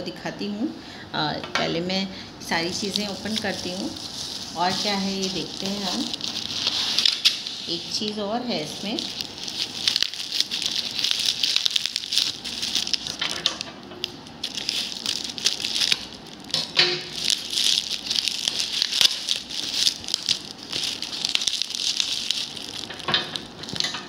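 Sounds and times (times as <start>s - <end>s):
bubble wrap crinkling: 2.5s - 24.0s.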